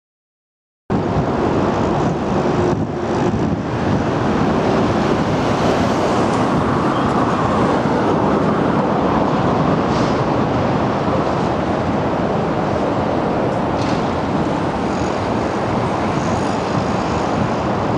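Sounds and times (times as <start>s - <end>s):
road traffic rushing: 0.9s - 17.9s.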